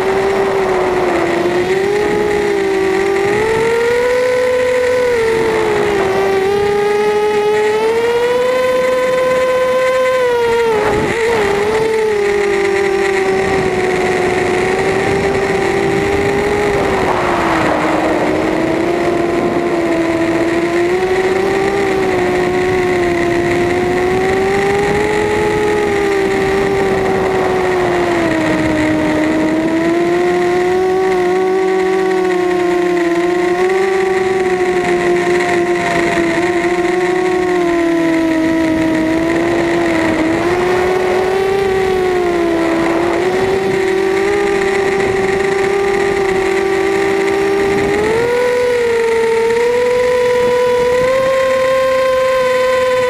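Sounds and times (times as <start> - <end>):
drone motors and propellers whining: 0.0 - 53.0.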